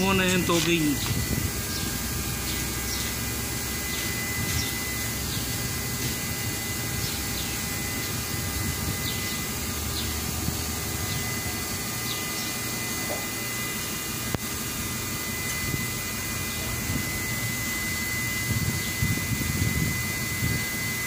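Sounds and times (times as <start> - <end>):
engine droning: 0.0 - 19.9
thin steady whine: 0.0 - 21.0.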